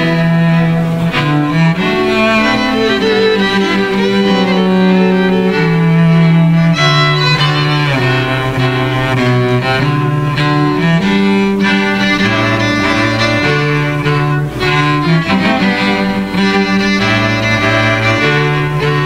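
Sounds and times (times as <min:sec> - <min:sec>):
bowed strings sustained notes: 0:00.0 - 0:19.0
cello low line: 0:00.0 - 0:19.0.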